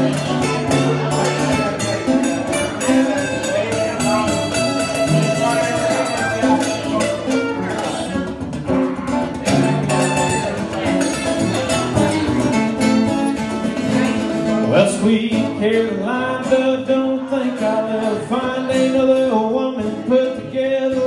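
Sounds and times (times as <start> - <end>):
country band playing: 0.0 - 21.0
lead guitar picking: 0.0 - 21.0.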